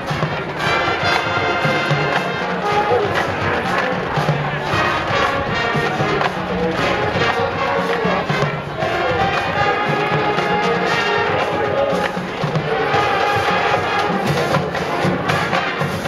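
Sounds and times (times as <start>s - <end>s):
brass marching band playing: 0.0s - 16.0s.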